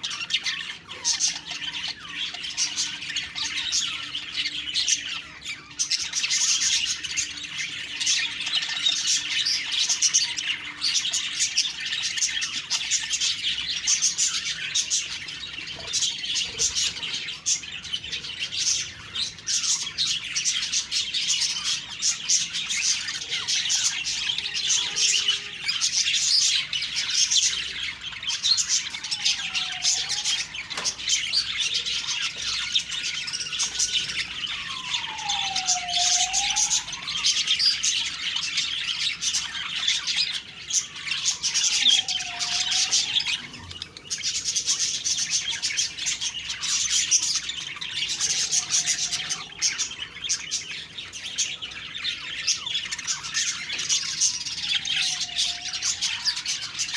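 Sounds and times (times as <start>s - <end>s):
budgerigars chattering and warbling: 0.0s - 56.9s.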